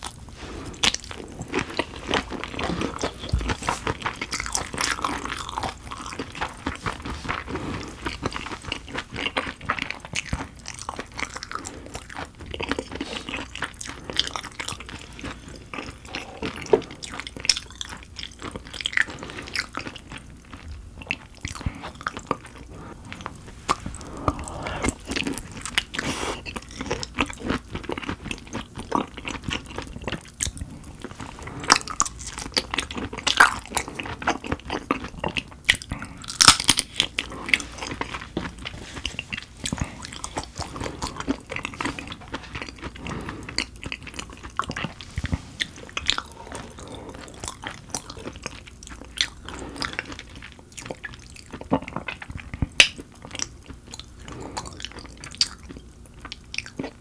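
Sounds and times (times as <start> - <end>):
wet sticky chewing: 0.0 - 57.0.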